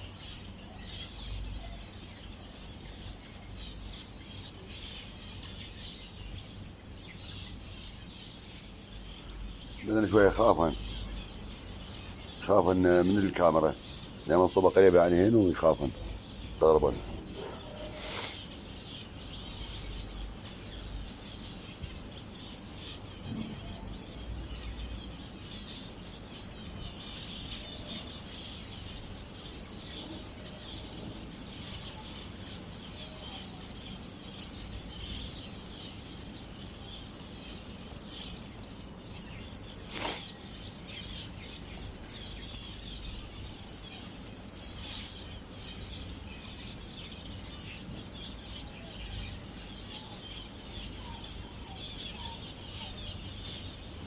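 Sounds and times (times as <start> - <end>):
finches chirping: 0.0 - 54.0.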